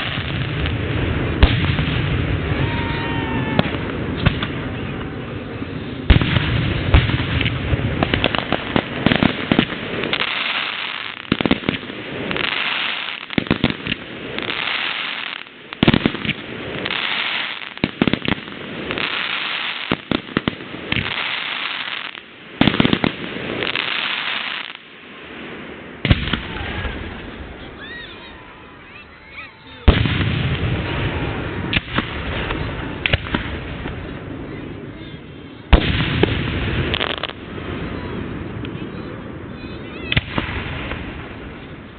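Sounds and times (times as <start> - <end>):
fireworks booming and popping: 0.0 - 41.9.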